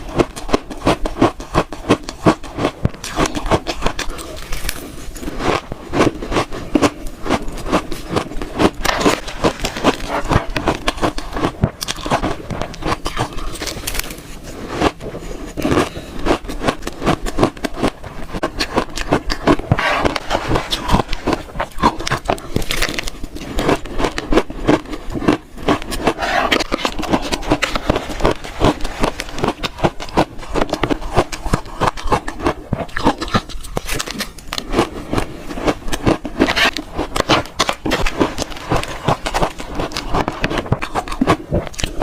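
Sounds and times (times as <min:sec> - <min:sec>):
chewing crunchy shaved ice: 0:00.0 - 0:42.0.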